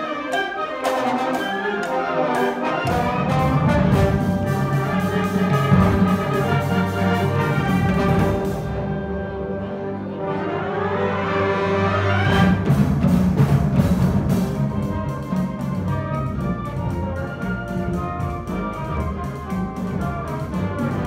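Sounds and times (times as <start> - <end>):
percussion rhythm: 0.0 - 9.0, 12.2 - 21.0
concert band playing: 0.0 - 21.0.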